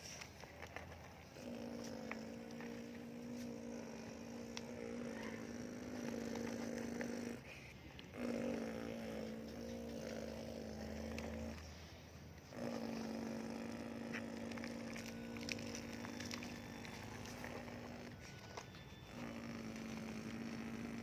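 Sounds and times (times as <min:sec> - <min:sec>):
small ticks and scrapes: 0:00.0 - 0:07.4, 0:09.2 - 0:21.0
toy excavator motor whining: 0:00.0 - 0:07.5, 0:08.1 - 0:21.0.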